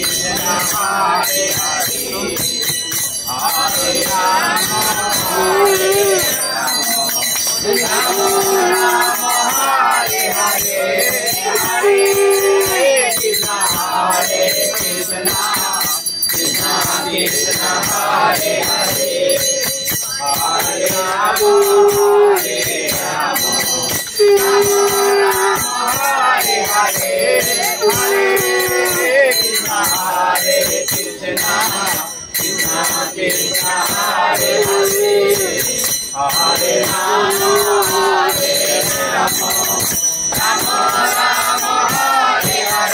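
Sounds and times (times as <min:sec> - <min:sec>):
bells jingling: 0:00.0 - 0:42.9
person singing devotional song: 0:00.0 - 0:42.9.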